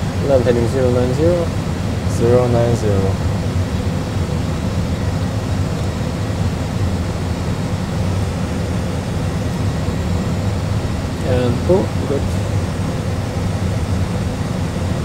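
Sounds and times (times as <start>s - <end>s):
aircraft cockpit rumble and hiss: 0.0s - 15.0s.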